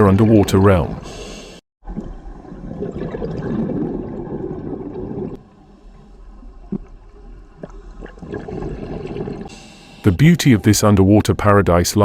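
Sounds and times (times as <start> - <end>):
underwater bubbling and gurgling: 0.0 - 10.0
underwater water noise: 0.0 - 11.6.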